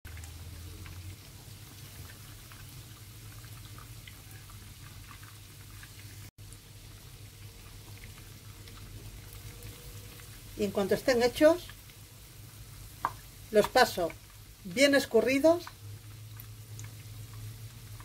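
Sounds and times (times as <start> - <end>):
bread sizzling in oil: 0.1 - 18.0
oil crackles and pops: 0.1 - 18.0.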